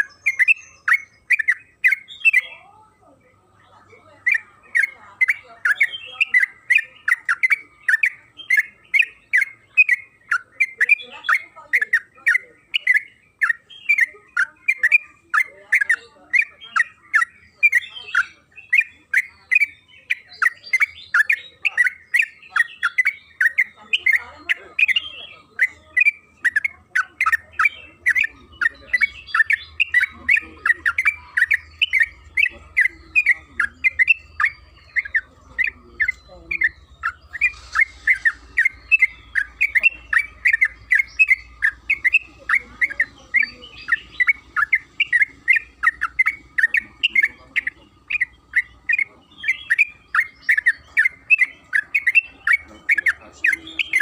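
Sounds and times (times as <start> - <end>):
bulbul chattering song: 0.0 - 54.0.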